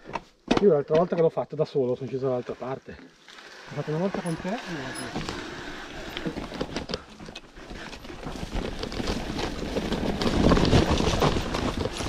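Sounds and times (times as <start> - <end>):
bike rattling: 2.0 - 12.0
tyres over loose rock: 2.1 - 12.0.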